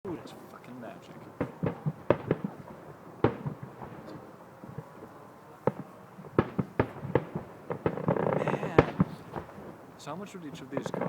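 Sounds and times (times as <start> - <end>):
fireworks exploding: 0.1 - 11.0.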